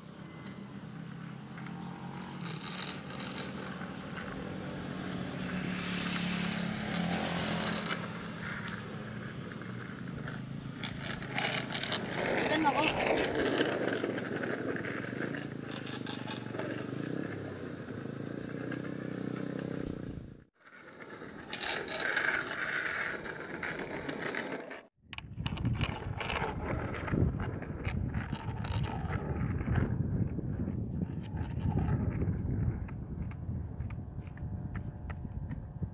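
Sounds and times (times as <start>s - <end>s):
skateboard wheels rolling on road: 0.0s - 35.9s.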